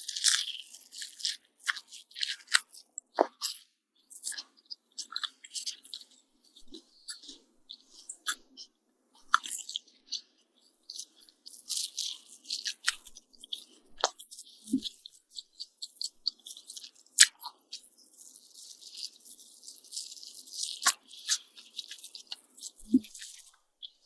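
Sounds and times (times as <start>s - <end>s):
chewing with wet crunches: 0.0s - 24.0s.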